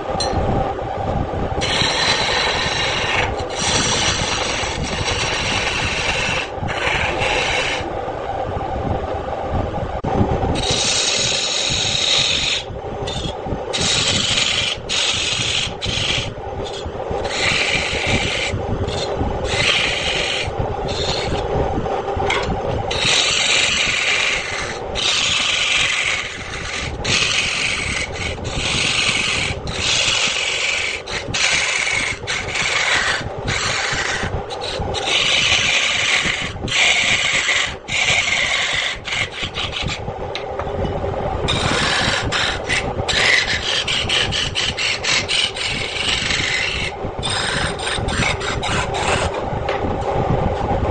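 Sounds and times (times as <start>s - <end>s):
tool scraping spinning wood: 0.0s - 8.4s, 10.0s - 50.9s
wood lathe humming: 1.6s - 8.3s, 10.5s - 40.7s, 41.5s - 49.8s.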